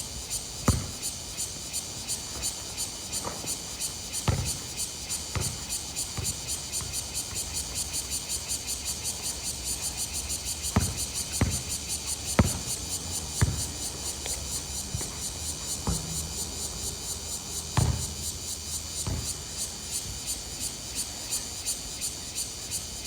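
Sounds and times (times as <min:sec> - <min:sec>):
high-pitched insect chirring: 0:00.2 - 0:23.0.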